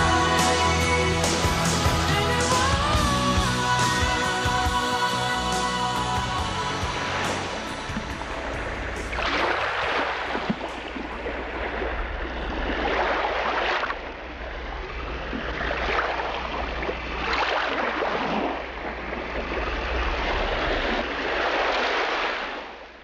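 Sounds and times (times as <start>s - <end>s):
steady low rumble: 0.0s - 21.4s
sea waves washing in: 0.0s - 23.0s.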